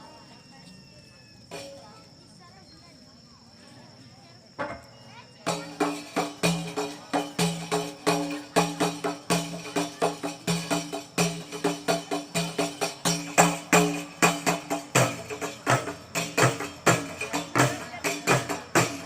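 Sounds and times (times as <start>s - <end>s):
frame drums and tambourine: 0.0s - 19.0s.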